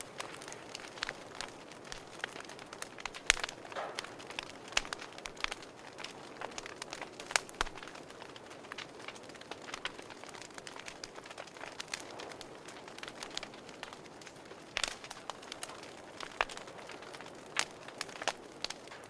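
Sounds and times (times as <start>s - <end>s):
fire crackling and popping: 0.0s - 19.0s
fire hissing in a fireplace: 0.0s - 19.0s.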